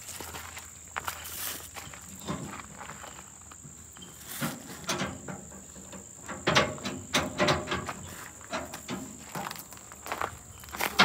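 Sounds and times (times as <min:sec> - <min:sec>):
metal clanks and rattles: 0:02.1 - 0:11.0.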